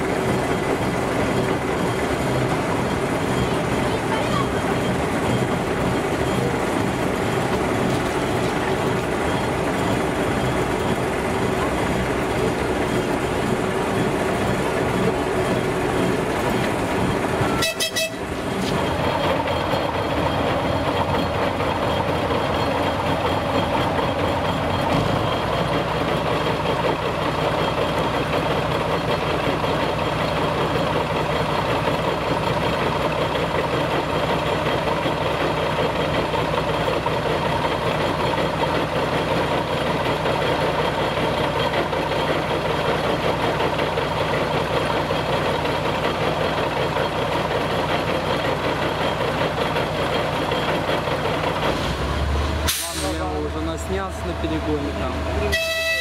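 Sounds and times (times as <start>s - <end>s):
deep engine tone: 0.0s - 56.0s
locomotive diesel engine running: 0.0s - 56.0s.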